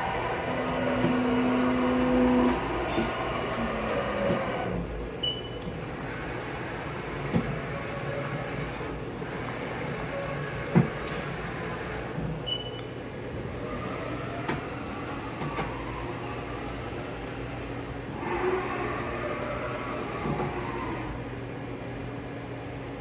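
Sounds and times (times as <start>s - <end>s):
machine whine: 0.0s - 12.2s, 13.3s - 22.2s
machine humming: 0.0s - 22.2s.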